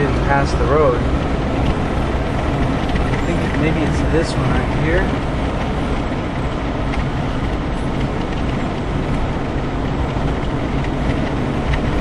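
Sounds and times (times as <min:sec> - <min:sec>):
vehicle cabin road rumble: 0:00.0 - 0:12.0.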